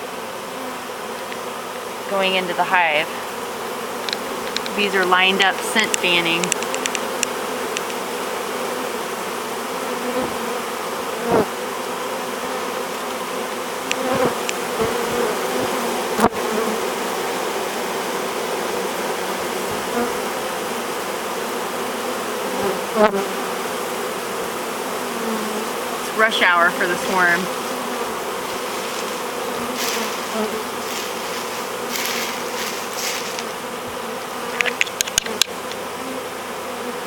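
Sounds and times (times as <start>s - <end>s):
bee swarm buzzing: 0.0s - 37.0s.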